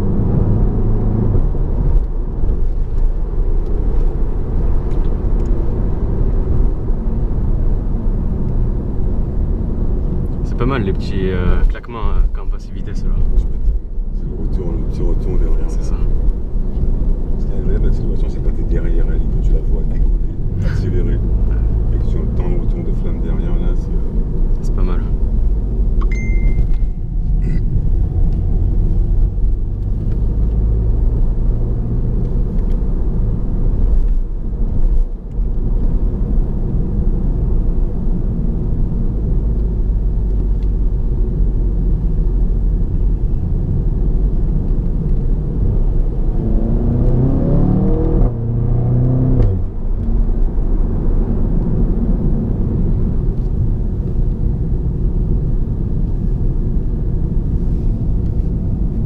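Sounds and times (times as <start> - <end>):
car engine while driving: 0.0 - 59.0
road rumble: 0.0 - 59.0.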